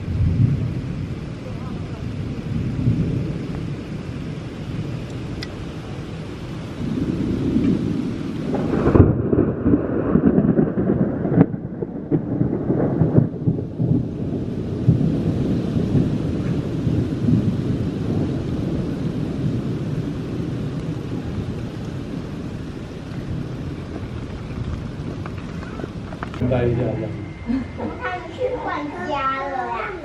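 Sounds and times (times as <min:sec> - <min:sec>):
steady rain hiss: 0:00.0 - 0:30.0
thunder rumbling and cracking: 0:00.0 - 0:30.0.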